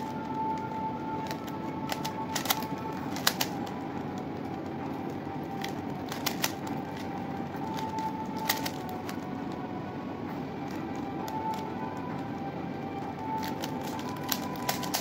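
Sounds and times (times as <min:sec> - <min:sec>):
puzzle cube plastic clicks: 0:00.0 - 0:09.6, 0:10.6 - 0:12.4, 0:13.0 - 0:15.0
faint high hum: 0:00.0 - 0:15.0.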